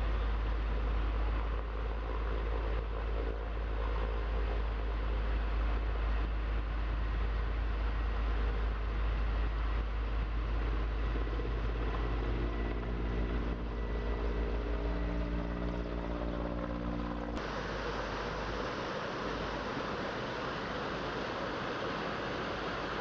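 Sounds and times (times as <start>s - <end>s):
steady droning tone: 0.0s - 23.0s.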